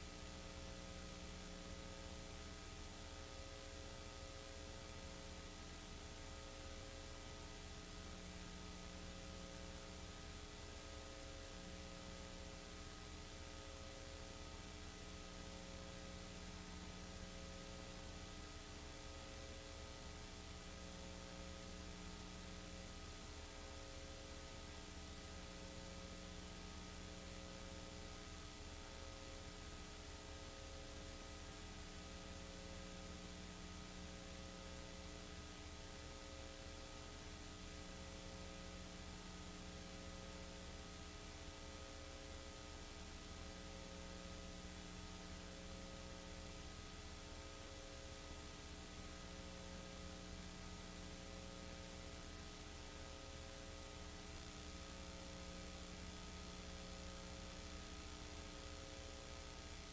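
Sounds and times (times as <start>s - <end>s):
low electrical hum with hiss: 0.0s - 59.9s.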